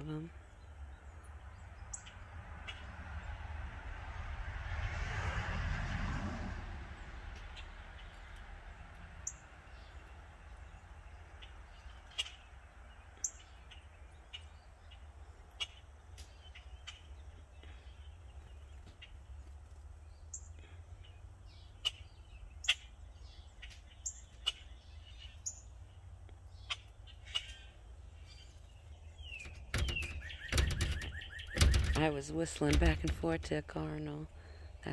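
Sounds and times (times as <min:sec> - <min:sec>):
songbirds chirping: 0:00.0 - 0:05.0, 0:06.6 - 0:34.9.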